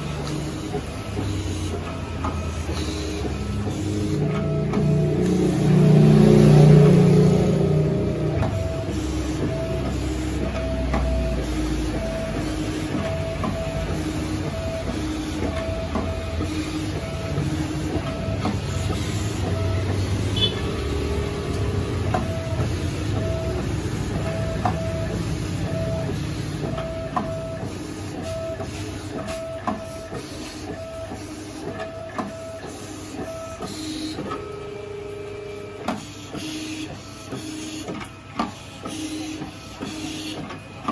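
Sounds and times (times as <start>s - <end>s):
cutting plotter motors whining: 0.0s - 40.9s.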